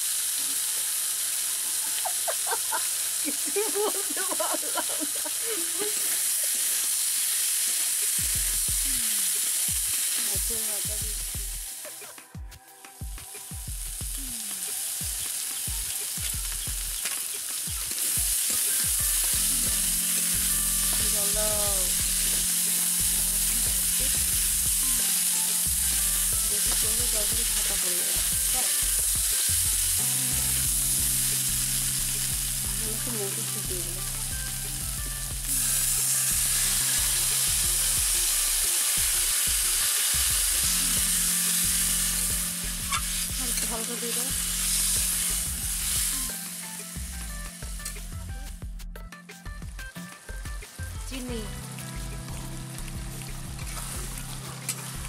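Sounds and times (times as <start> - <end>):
food sizzling in a wok: 0.0 - 48.6, 49.8 - 55.0.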